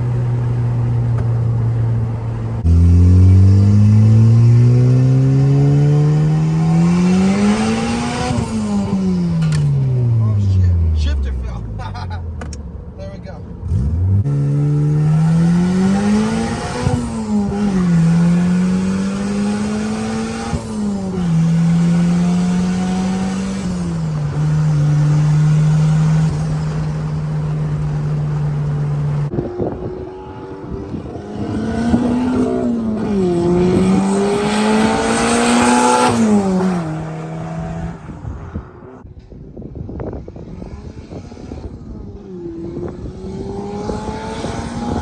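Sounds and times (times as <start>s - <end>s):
turbocharged engine accelerating through gears: 0.0s - 11.5s, 13.6s - 39.1s, 40.0s - 45.0s.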